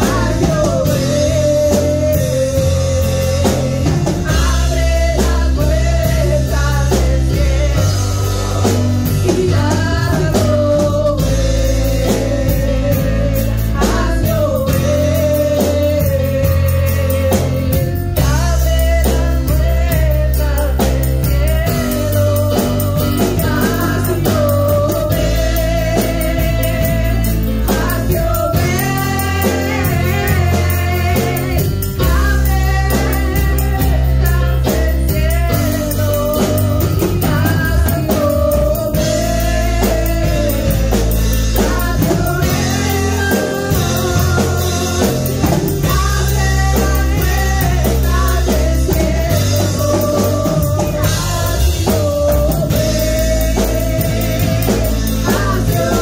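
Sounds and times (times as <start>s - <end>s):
band playing worship music: 0.0s - 56.0s
women singing together: 0.0s - 56.0s.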